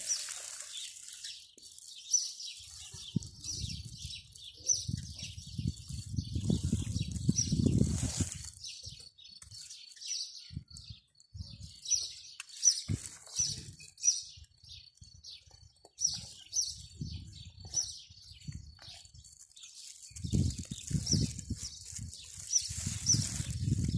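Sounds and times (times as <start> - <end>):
small bird chirping: 0.0 - 23.9.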